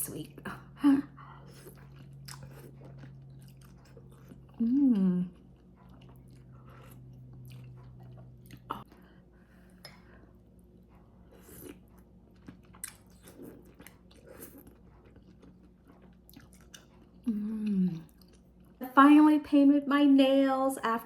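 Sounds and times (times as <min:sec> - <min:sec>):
low steady hum: 0:00.0 - 0:21.0
person chewing: 0:01.3 - 0:18.8.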